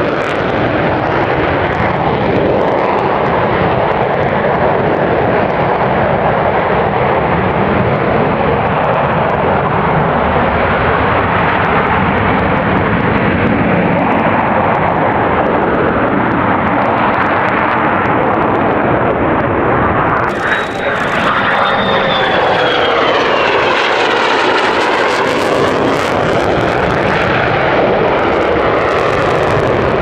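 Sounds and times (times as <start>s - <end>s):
loud jet roar: 0.0s - 30.0s.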